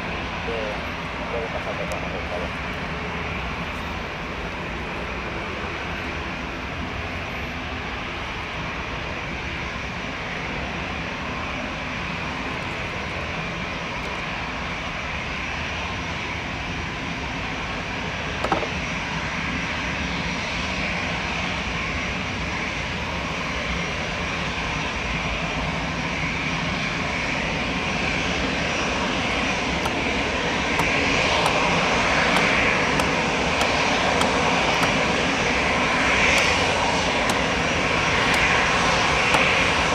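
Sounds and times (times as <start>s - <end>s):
high engine whine: 0.0s - 39.9s
jet engines running: 0.0s - 39.9s.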